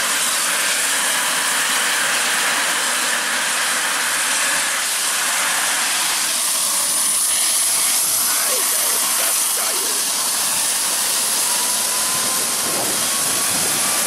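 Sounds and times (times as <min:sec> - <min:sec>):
helicopter turbine engines idling: 0:00.0 - 0:14.0.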